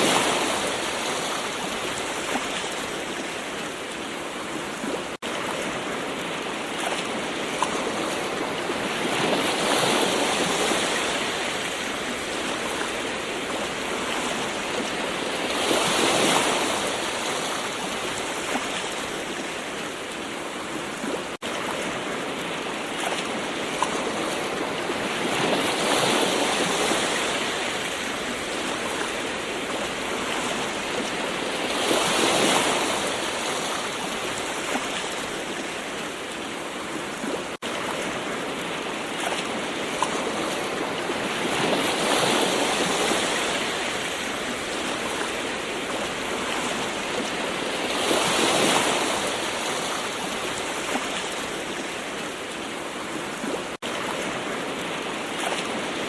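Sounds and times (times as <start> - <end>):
ocean waves: 0.0 - 56.0.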